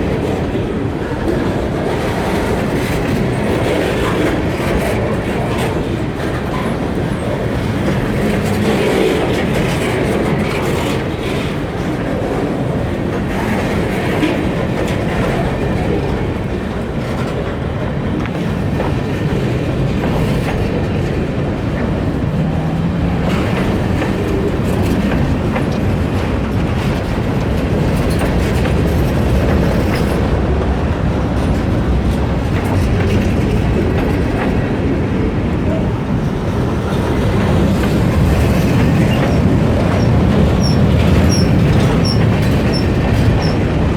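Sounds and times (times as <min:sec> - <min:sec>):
freight train wheels clattering: 0:00.0 - 0:43.9.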